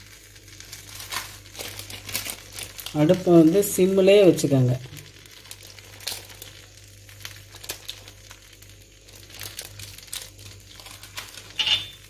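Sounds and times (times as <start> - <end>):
crackles and pops on hot griddle: 0.0 - 12.0.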